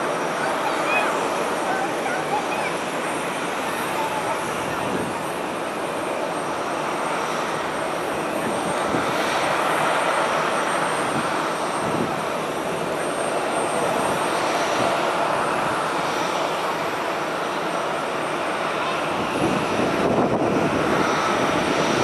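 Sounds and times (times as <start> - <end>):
turboprop airliner drone: 0.0 - 22.0.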